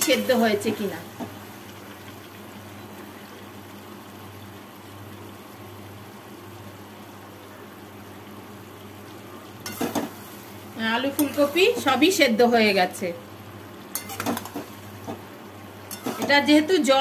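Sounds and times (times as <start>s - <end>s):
curry cooking hiss: 0.0s - 17.0s
low steady hum: 0.0s - 17.0s.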